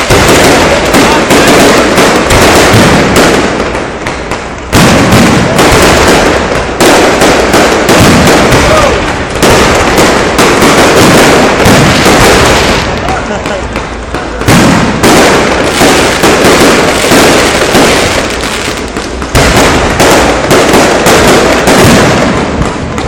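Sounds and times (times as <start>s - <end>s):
fireworks crackling bangs: 0.0s - 23.0s
heavy firework bursts: 0.0s - 23.0s.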